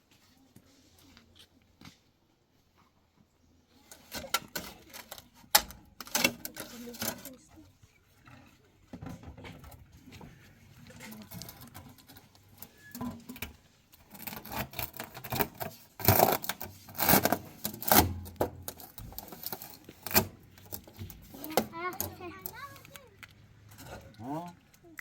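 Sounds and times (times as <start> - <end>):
clatter of objects handled: 3.9 - 24.8.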